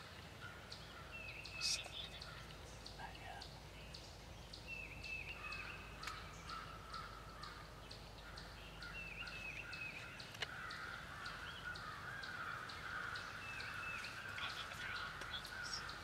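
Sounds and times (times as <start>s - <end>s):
bird high chip calls: 0.7s - 3.4s, 4.6s - 16.0s.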